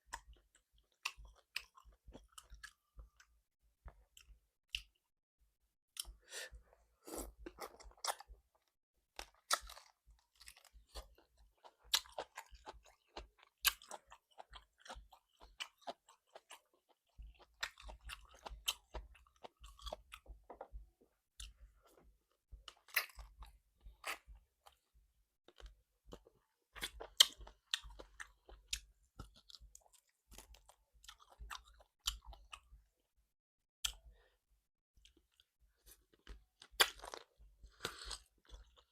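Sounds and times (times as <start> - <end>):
chewing and biting food: 0.1 - 3.3, 7.1 - 20.8, 21.4 - 32.8, 35.0 - 38.9.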